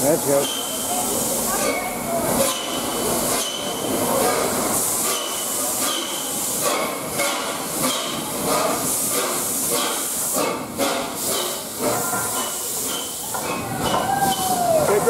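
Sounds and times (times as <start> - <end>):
steam locomotive exhaust chuffs: 0.0 - 15.0.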